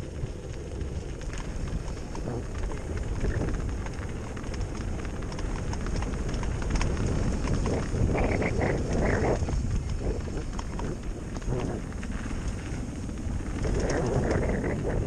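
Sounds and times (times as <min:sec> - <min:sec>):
bike rattling: 0:00.0 - 0:15.0
tyres crunching over stones: 0:00.0 - 0:15.0
wind on microphone: 0:00.0 - 0:15.0.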